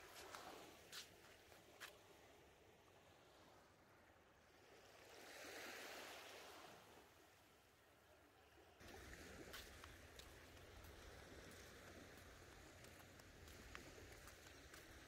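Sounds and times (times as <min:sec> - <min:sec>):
waves lapping on sand: 0:00.0 - 0:07.9, 0:08.5 - 0:15.0.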